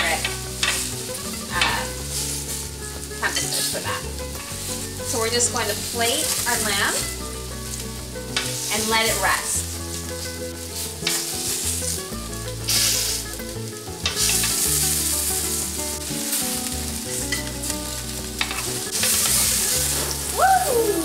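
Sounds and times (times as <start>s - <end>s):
meat sizzling on a grill pan: 0.0s - 21.0s.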